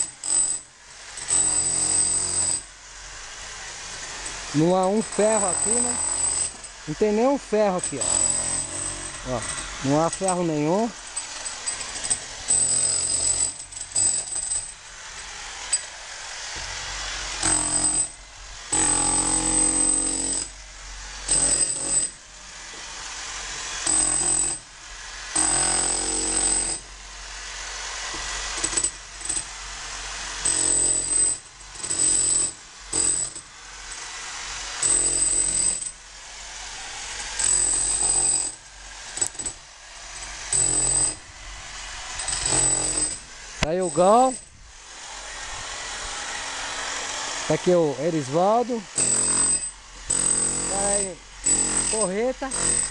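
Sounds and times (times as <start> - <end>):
demolition hammer chiselling masonry: 0.0 - 2.7, 3.7 - 14.8, 16.6 - 20.5, 21.2 - 24.7, 25.3 - 26.9, 28.0 - 36.0, 37.0 - 39.6, 40.2 - 41.2, 42.0 - 45.1, 45.7 - 52.9.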